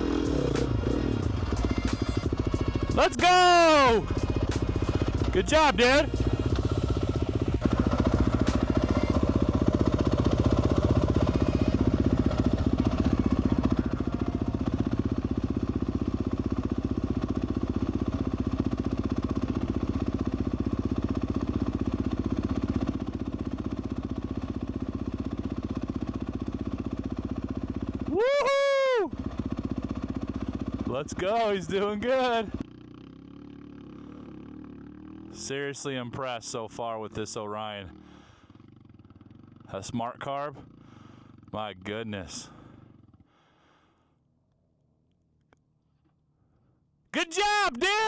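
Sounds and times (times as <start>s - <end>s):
dirt bike engine running: 0.0s - 46.2s, 47.2s - 48.0s.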